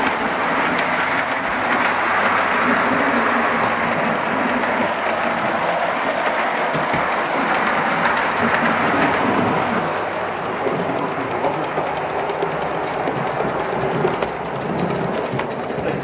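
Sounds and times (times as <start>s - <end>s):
steam exhaust rushing: 0.0s - 16.0s
wheels clicking on rails: 0.0s - 16.0s.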